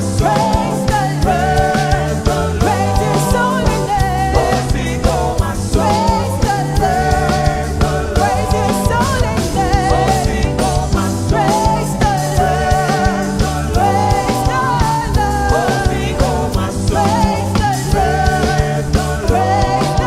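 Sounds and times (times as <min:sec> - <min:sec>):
bass: 0:00.0 - 0:20.0
drum beat: 0:00.0 - 0:20.0
person singing: 0:00.0 - 0:20.0.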